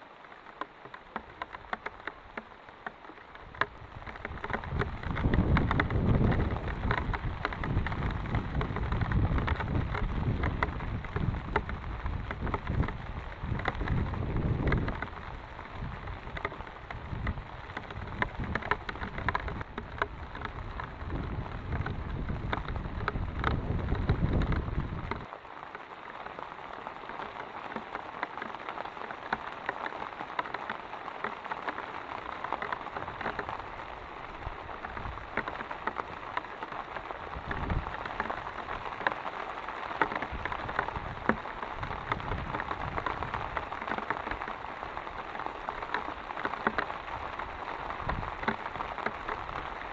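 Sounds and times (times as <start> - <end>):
heavy rain pattering: 0.0 - 49.9.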